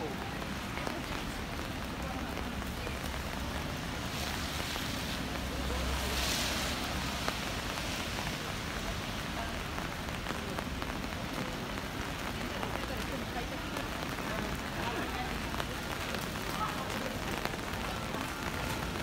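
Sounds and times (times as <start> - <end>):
steady rain on street: 0.0 - 19.0
car tyres hissing on wet road: 0.2 - 19.0.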